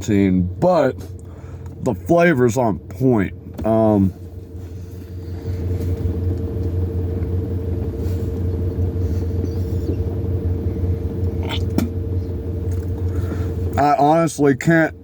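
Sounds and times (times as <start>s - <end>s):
low mechanical rumble: 0.0s - 15.0s
mid-pitched hum: 0.0s - 15.0s.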